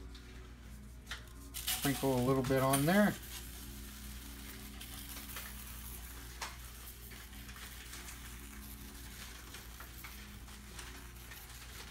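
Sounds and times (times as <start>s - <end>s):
iron filings pattering onto paper: 1.1s - 11.9s.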